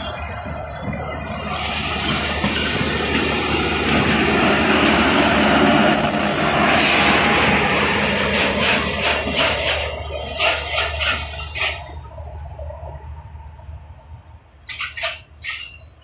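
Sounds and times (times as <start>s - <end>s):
steady low drone: 0.0s - 14.6s
train wheels rumbling on rails: 0.0s - 16.0s.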